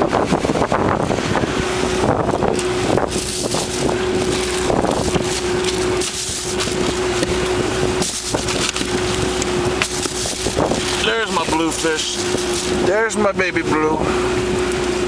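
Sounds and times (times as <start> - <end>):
steady hum: 0.0 - 15.0
wind buffeting microphone: 0.0 - 15.0.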